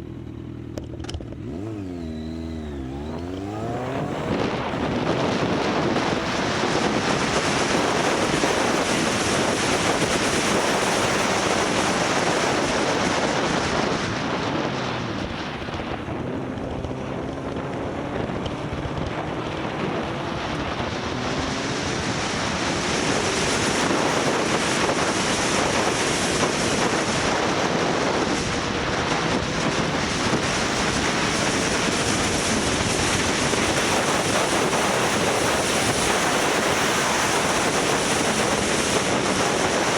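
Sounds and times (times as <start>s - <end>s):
motorcycle engine revving: 0.0s - 39.9s
heavy wind on microphone: 1.2s - 39.9s.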